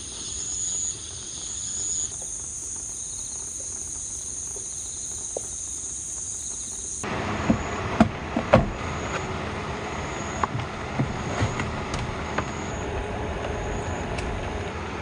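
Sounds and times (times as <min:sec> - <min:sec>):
insects chirring: 0:00.0 - 0:07.9, 0:08.7 - 0:15.0
rain hissing: 0:00.0 - 0:15.0.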